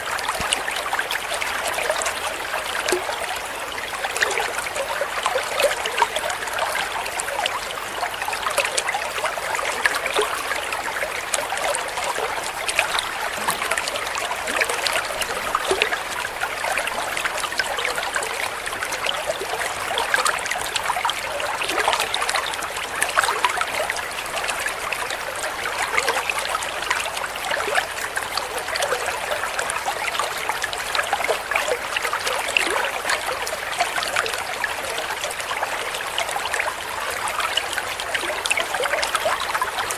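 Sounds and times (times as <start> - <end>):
babbling stream: 0.0 - 39.9.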